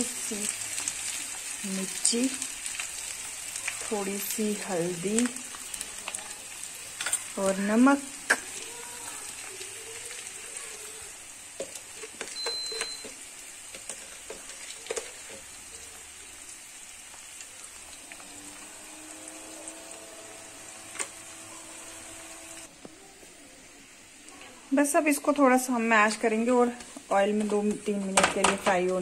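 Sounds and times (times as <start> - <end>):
greens sizzling in hot oil: 0.0 - 22.9, 23.6 - 29.0.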